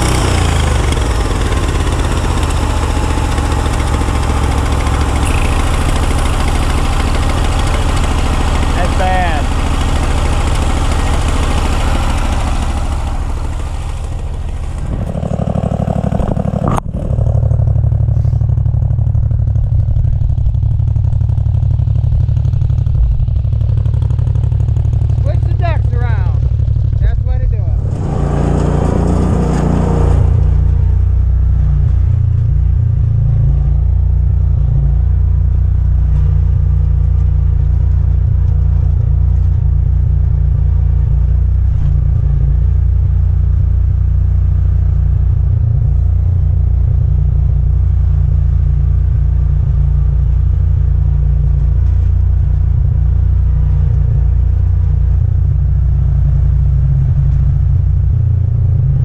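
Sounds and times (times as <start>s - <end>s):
mower engine humming: 0.0s - 59.0s.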